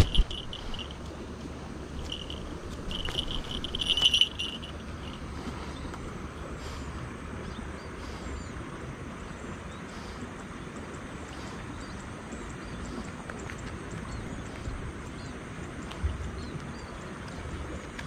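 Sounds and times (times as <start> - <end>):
steady outdoor noise: 0.0 - 18.0.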